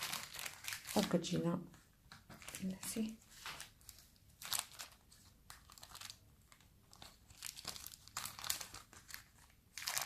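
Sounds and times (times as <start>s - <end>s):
pastry sheets crinkling: 0.0s - 10.0s.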